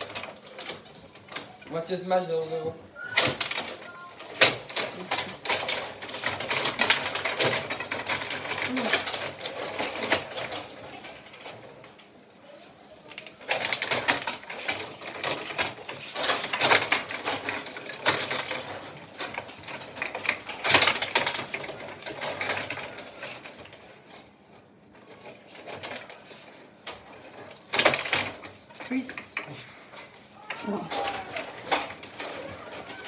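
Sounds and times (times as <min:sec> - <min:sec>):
table hockey rods clattering: 0:00.0 - 0:02.1, 0:03.0 - 0:12.2, 0:13.0 - 0:33.0.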